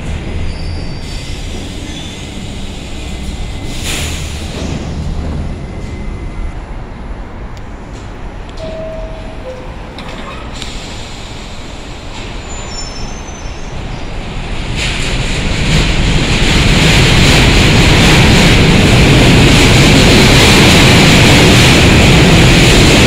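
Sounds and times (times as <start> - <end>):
subway train pulling out: 0.0 - 23.0.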